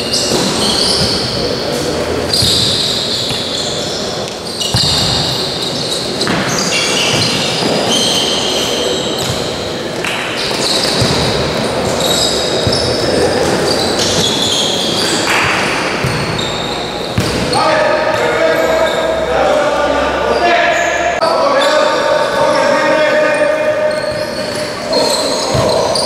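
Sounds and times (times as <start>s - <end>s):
shoes squeaking on floor: 0.0s - 19.3s, 20.3s - 26.0s.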